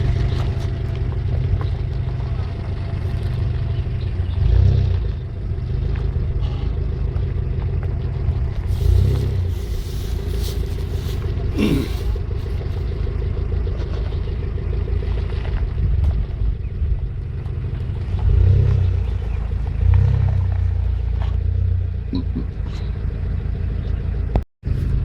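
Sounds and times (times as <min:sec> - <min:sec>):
off-road vehicle engine rumble: 0:00.0 - 0:25.0.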